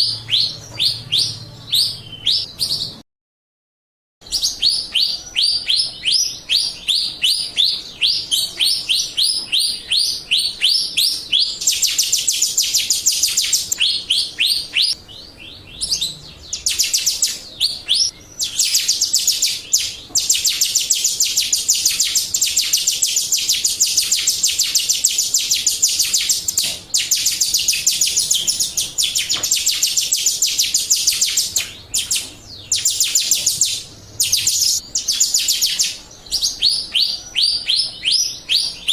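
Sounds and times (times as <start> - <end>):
starling chirping rapidly: 0.0 - 3.0, 4.2 - 38.9.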